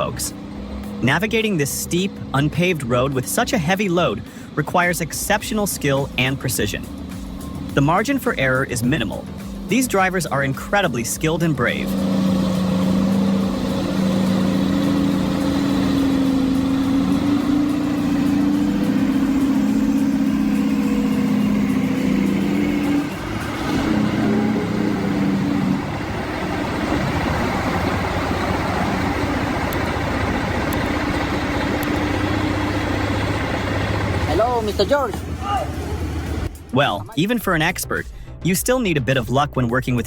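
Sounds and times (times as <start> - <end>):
truck engine running under load: 0.0 - 36.6.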